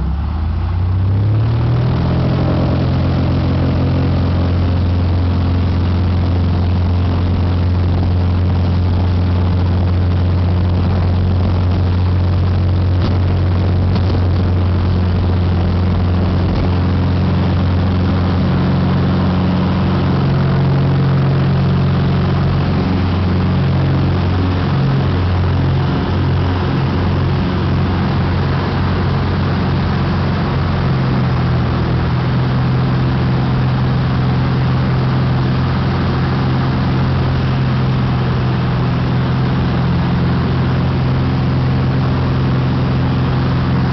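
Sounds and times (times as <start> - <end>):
propeller aircraft engine drone: 0.0 - 43.9.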